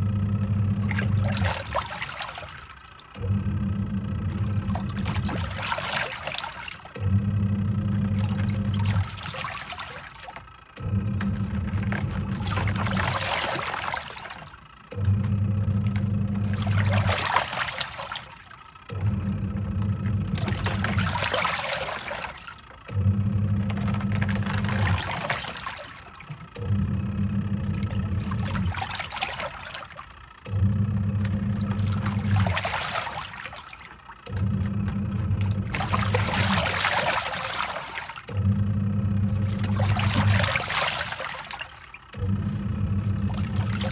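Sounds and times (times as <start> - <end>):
washing machine motor humming: 0.0 - 43.9
water sloshing and churning: 0.0 - 43.9.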